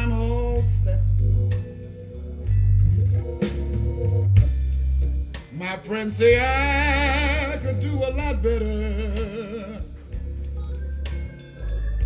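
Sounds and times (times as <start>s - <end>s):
blues song over loudspeakers: 0.0s - 12.0s.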